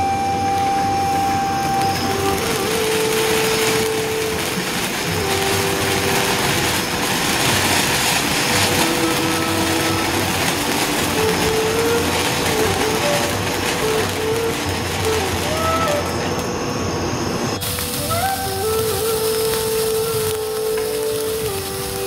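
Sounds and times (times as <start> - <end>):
firework fountain hissing and crackling: 0.0 - 22.0
whistling tones: 0.0 - 22.0.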